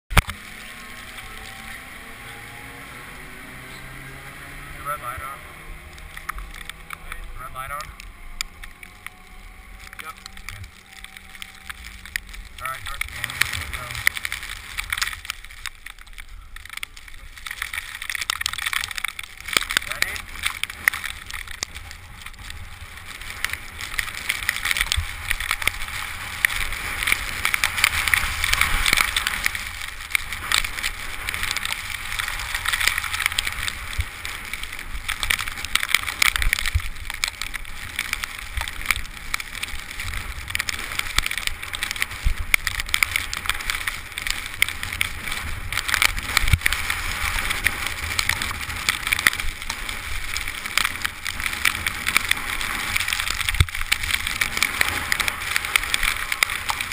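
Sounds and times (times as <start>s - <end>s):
low wind rumble: 0.1s - 56.9s
skis scraping over snow: 0.1s - 56.9s.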